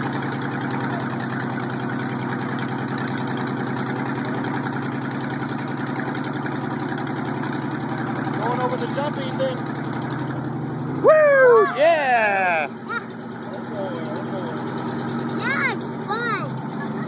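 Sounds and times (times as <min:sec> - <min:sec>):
truck engine running steadily: 0:00.0 - 0:17.0.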